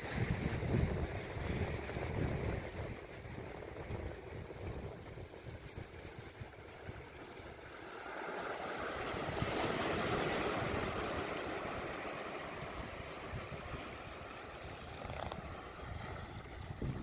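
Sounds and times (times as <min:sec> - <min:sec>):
water rushing over boulders: 0:00.0 - 0:17.0.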